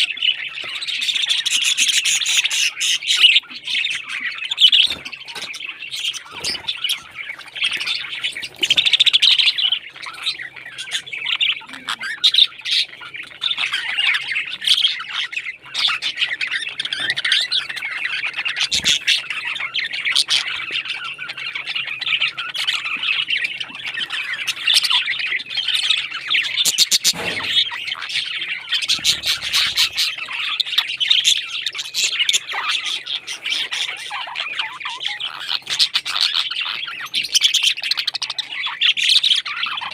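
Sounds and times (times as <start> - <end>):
parrots chirping and squawking: 0.0 - 39.9.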